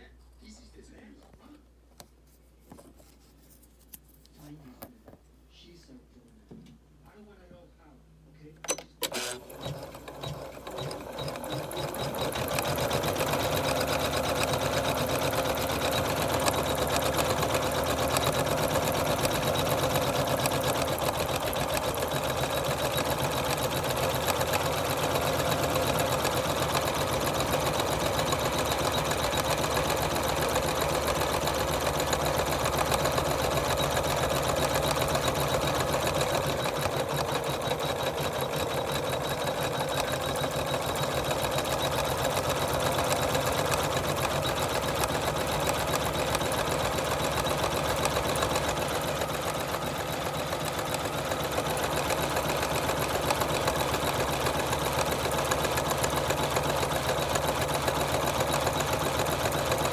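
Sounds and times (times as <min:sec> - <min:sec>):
embroidery machine stitching: 0:08.7 - 0:59.9.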